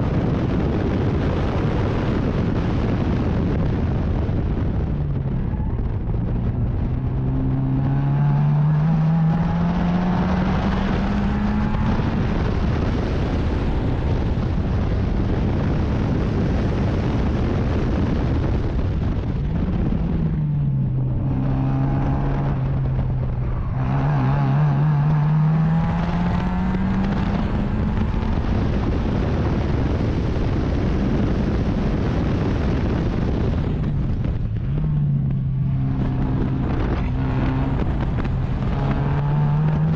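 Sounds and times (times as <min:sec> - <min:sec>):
wind noise: 0:00.0 - 0:39.9
racing car engine accelerating: 0:00.2 - 0:14.5, 0:19.2 - 0:39.9.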